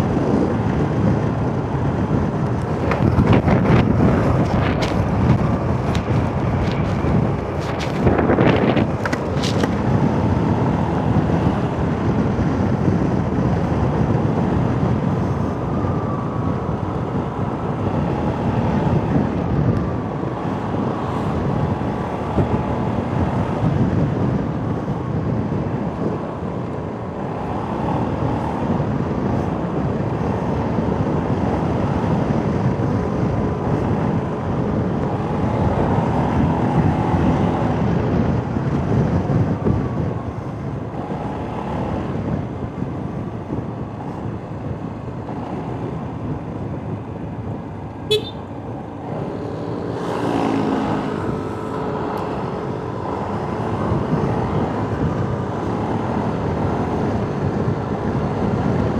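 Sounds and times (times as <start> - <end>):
wind noise on microphone: 0.0 - 58.9.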